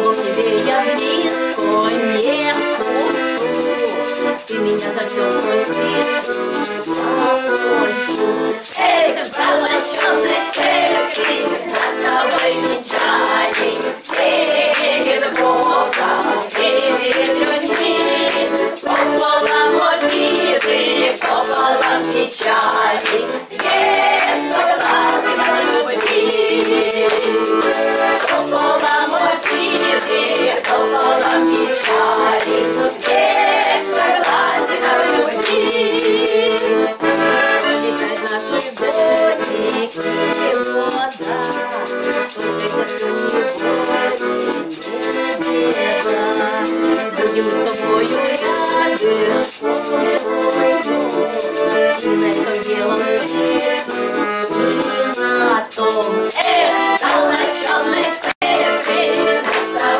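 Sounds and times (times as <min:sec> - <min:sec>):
women singing folk song in harmony: 0:00.0 - 0:59.9.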